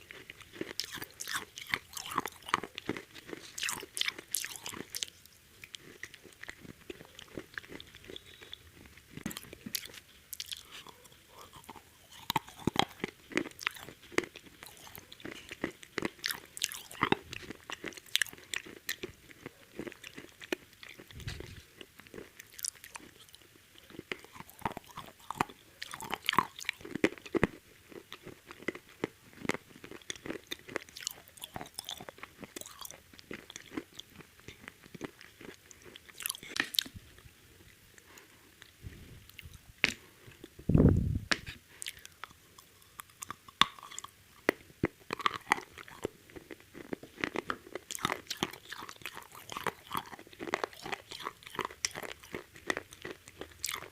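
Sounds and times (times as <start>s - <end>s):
crunchy bites and chewing: 0.0s - 40.6s, 41.3s - 53.9s.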